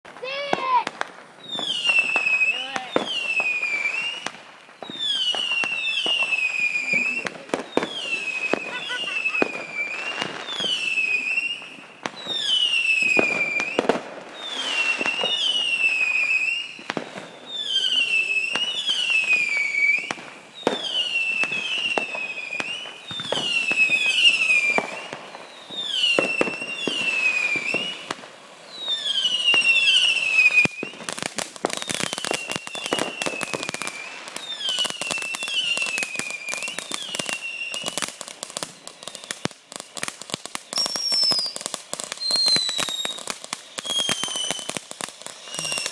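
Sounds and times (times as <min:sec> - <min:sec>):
firework crackling pops: 0:00.0 - 0:45.9
whistling firework shots: 0:00.1 - 0:45.9.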